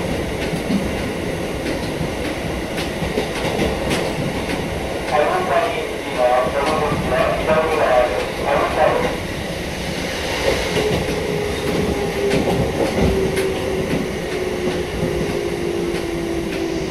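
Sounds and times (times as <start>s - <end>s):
train rumbling on track: 0.0s - 16.9s
train whine: 0.0s - 16.9s.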